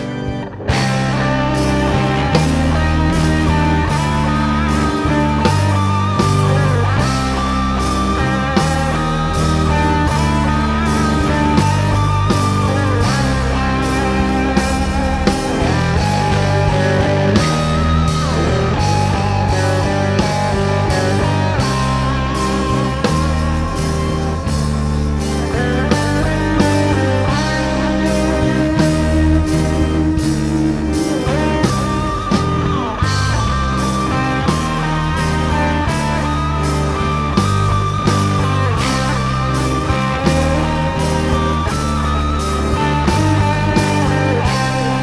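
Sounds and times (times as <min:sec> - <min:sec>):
drum kit hits: 0:00.0 - 0:45.0
electric bass: 0:00.0 - 0:45.0
electric guitar: 0:00.0 - 0:45.0.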